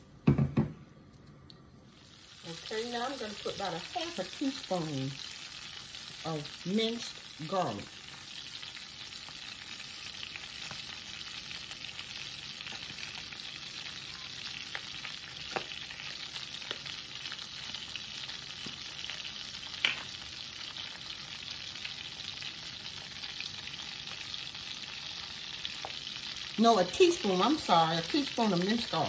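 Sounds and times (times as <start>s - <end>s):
butter sizzling in pans: 1.9s - 29.0s.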